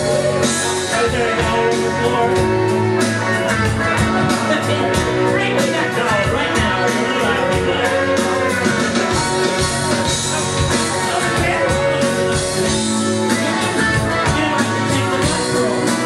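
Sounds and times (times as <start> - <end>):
rock and roll music: 0.0 - 16.0.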